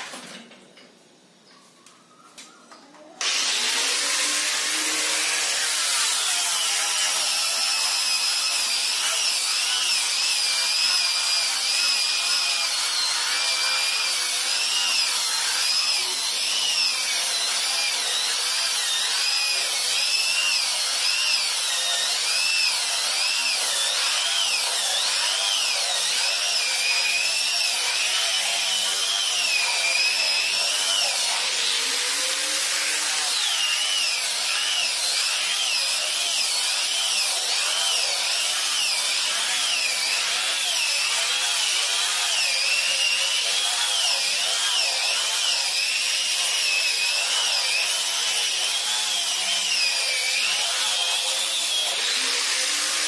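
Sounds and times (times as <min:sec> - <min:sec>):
angle grinder sanding wood: 0:03.2 - 0:53.0.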